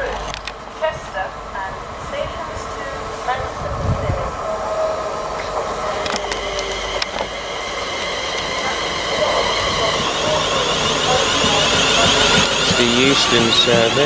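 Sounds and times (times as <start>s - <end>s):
electric train whine and rumble: 0.0s - 14.0s.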